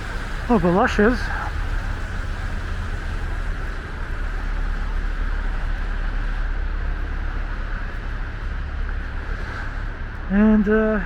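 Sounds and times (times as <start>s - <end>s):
low rumble of city traffic: 0.0s - 11.0s.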